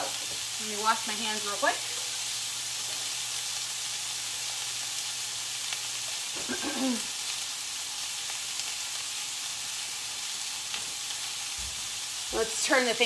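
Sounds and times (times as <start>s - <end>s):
patties sizzling in skillet: 0.0s - 13.0s.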